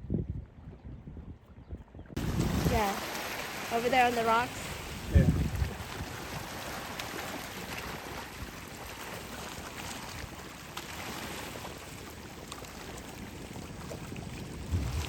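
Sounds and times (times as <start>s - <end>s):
wind: 0.0s - 15.0s
sea water washing: 2.2s - 15.0s.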